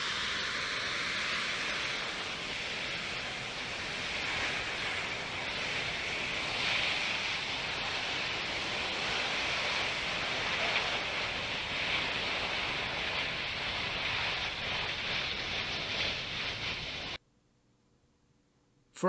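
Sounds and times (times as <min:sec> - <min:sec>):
electric ducted fans rushing hiss: 0:00.0 - 0:17.2.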